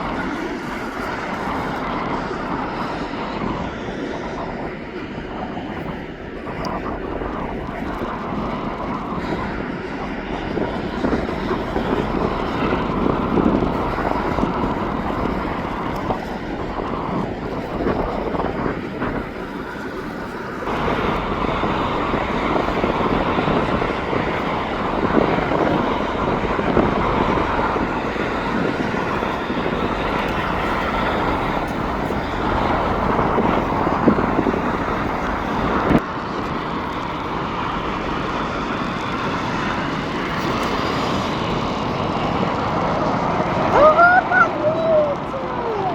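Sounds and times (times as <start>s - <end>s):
jet engines: 0.0s - 45.9s.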